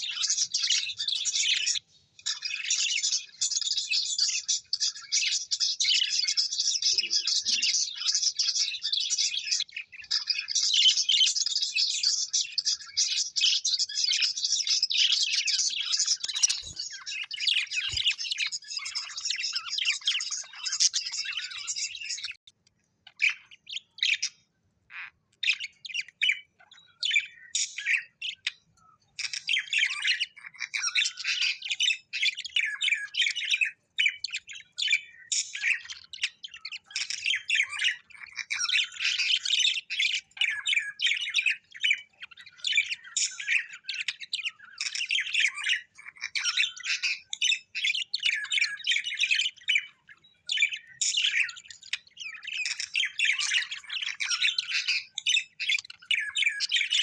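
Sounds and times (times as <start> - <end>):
parrots chattering and squawking: 0.0 - 57.0.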